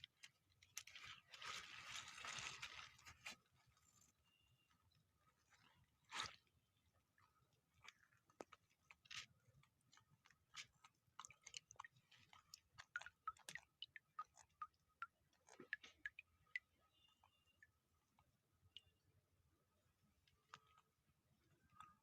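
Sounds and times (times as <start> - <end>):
faint small clicks and crackles: 0.0 - 6.5, 7.1 - 19.0, 20.2 - 22.0.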